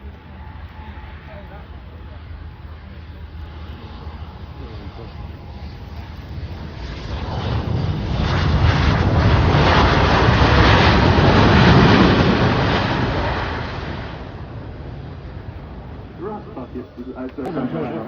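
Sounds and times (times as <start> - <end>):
aircraft flying past: 0.0 - 18.0.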